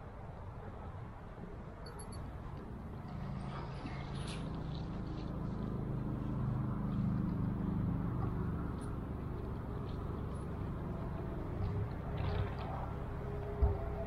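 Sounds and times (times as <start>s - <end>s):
low engine rumble: 1.9s - 14.0s.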